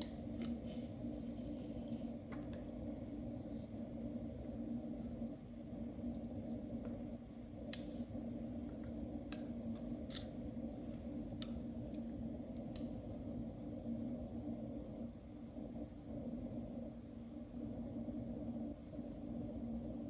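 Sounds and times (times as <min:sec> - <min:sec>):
aquarium pumps humming: 0:00.0 - 0:20.0.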